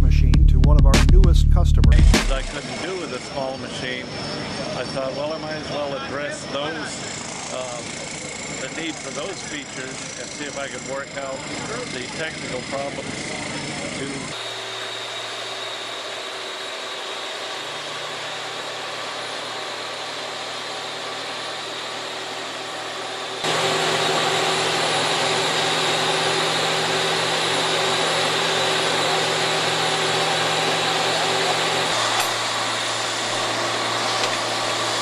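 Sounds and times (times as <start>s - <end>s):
concrete curb machine motor drone: 1.5s - 35.0s.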